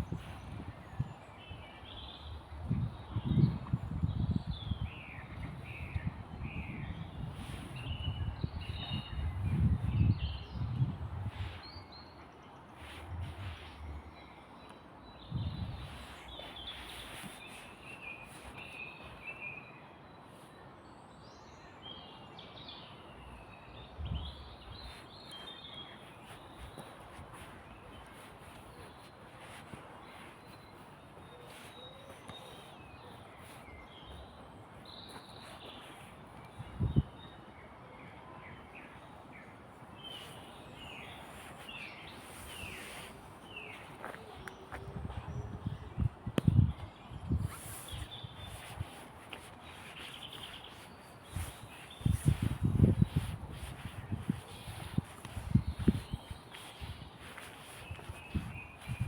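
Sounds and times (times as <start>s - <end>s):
small birds singing and chirping: 0.0s - 59.0s.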